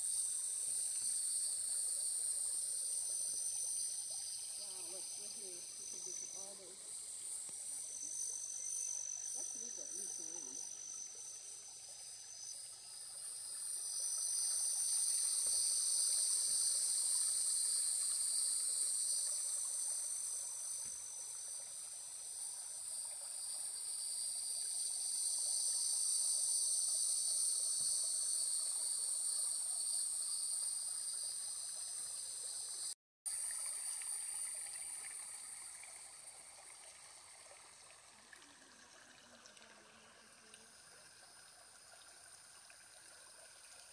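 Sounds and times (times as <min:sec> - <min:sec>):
creek trickling over rocks: 0:00.0 - 0:28.1, 0:30.8 - 0:43.9
insect chorus buzzing: 0:00.0 - 0:43.9.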